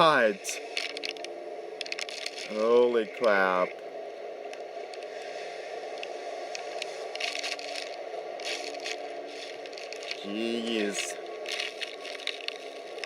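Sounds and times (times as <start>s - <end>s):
faint low hum: 0.0s - 13.0s
steady rushing noise: 0.0s - 13.0s.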